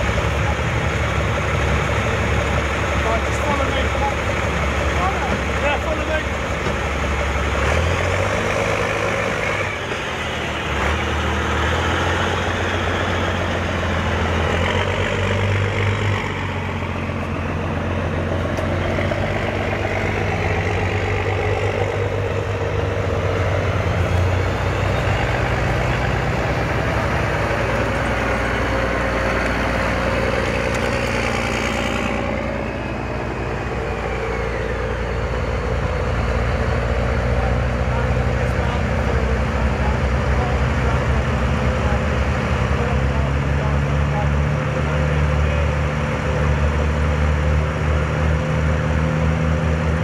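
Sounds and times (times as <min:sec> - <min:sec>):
heavy vehicle engines running: 0:00.0 - 0:50.0.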